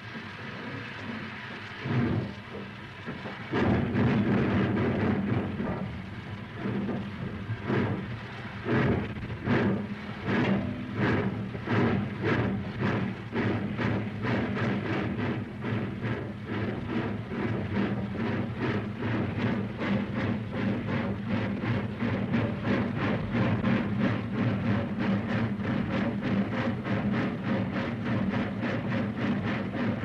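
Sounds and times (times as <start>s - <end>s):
loud steam blast: 0.0s - 30.0s
steam hissing: 0.0s - 30.0s
steam locomotive chuffing: 0.0s - 30.0s.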